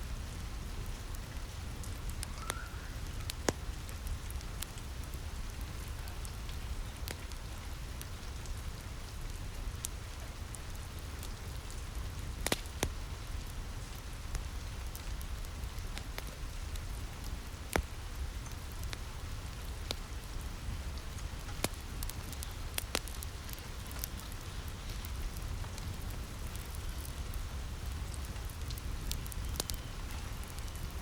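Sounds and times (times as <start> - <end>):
rain pattering on a roof: 0.0 - 31.0
wood fire crackling and popping: 0.1 - 31.0.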